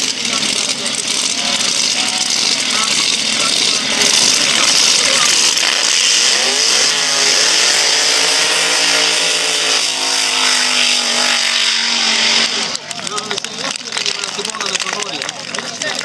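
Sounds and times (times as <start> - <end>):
dragster engine revving: 0.0 - 16.0
tyres spinning: 0.0 - 16.0.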